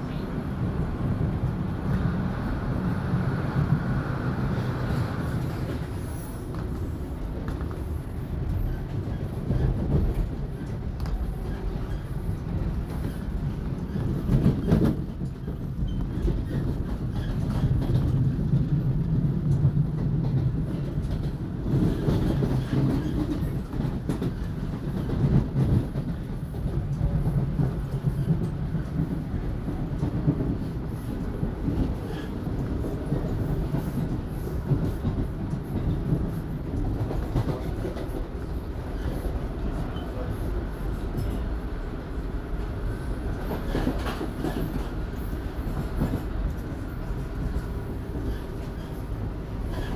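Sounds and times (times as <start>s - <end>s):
subway car rumble: 0.0s - 49.9s.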